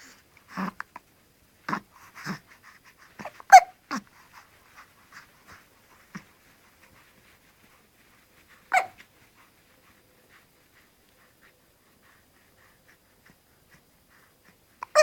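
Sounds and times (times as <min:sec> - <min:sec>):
faint breaths: 0:00.0 - 0:15.0.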